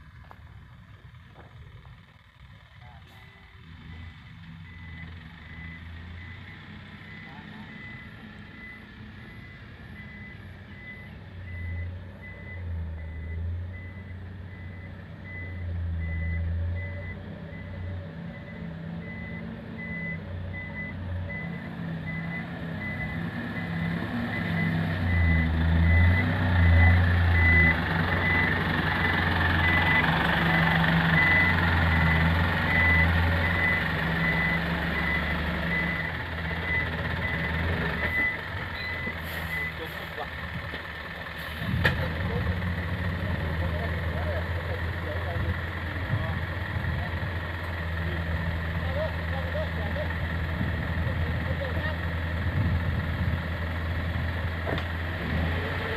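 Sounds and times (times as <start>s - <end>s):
diesel engine: 0.0s - 55.9s.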